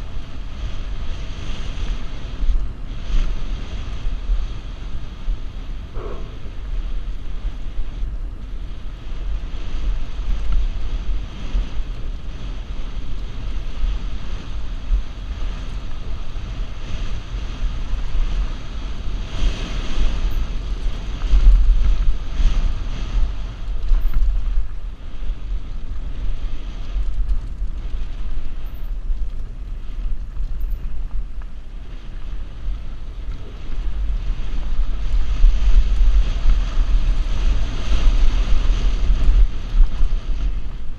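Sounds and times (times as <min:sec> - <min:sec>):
bike rattling over trail: 0:00.0 - 0:40.9
wind buffeting microphone: 0:00.0 - 0:40.9.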